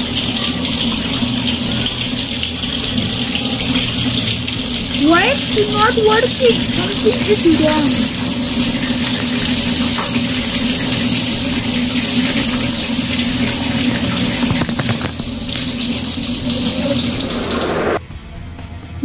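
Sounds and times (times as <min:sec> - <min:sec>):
tap water pouring on water-wheel: 0:00.0 - 0:17.7.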